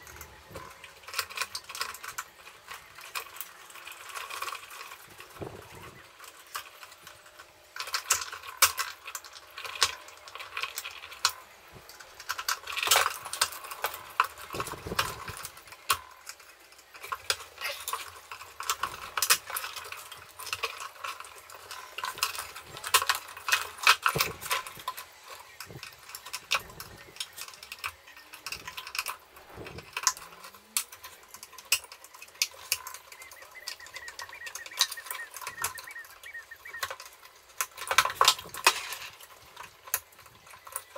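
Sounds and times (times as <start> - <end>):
metallic clinks and rattles: 0.0 - 40.9.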